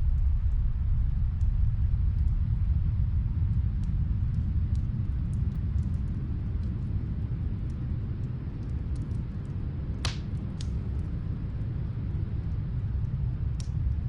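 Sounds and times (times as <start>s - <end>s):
snowstorm wind rumble: 0.0s - 14.0s
wood fire crackling: 0.0s - 14.0s.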